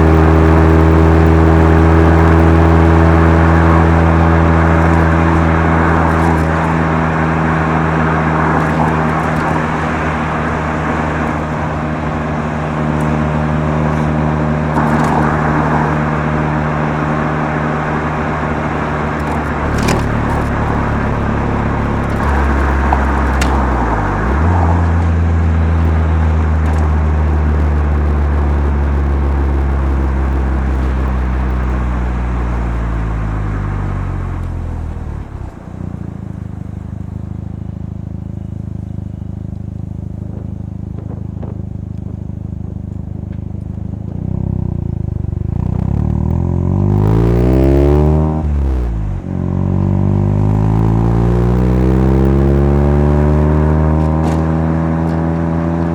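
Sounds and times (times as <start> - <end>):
gear change: 0.0 - 55.9
rotary car engine while driving: 0.0 - 55.9.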